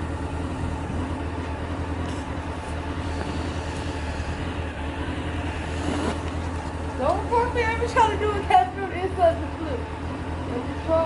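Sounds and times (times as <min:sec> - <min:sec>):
low mechanical drone: 0:00.0 - 0:11.0.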